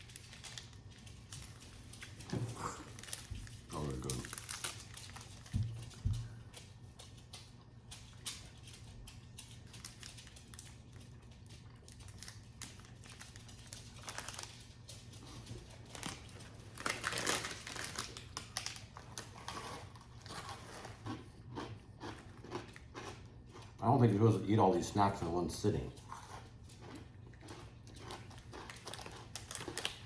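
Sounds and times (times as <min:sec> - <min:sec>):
snack wrappers crinkling: 0:00.0 - 0:24.1, 0:25.9 - 0:30.0.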